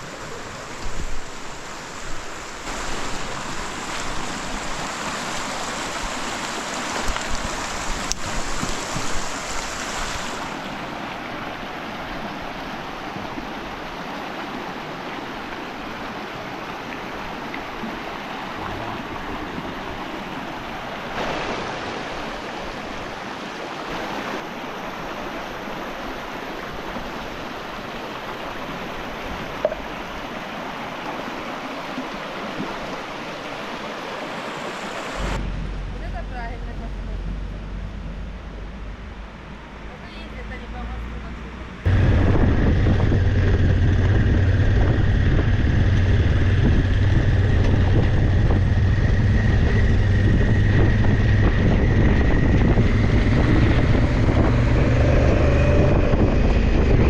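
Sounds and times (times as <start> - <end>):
rushing mountain water: 0.0 - 57.0.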